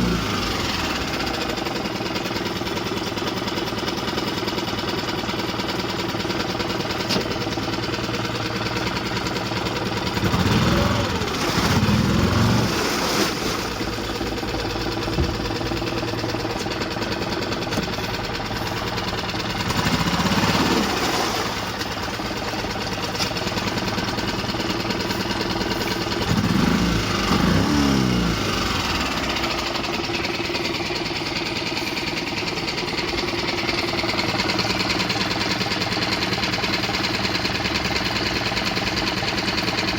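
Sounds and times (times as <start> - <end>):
outboard motor idling and revving: 0.0 - 39.9.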